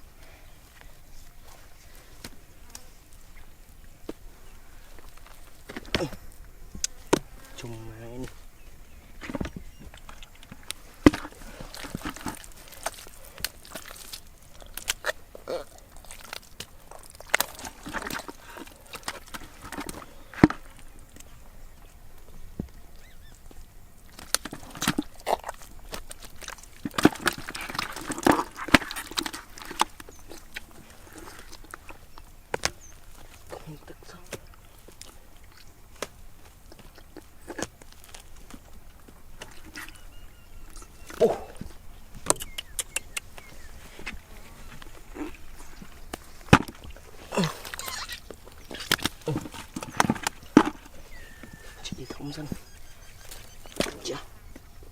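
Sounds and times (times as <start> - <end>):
digging earth by hand: 0.0 - 54.9.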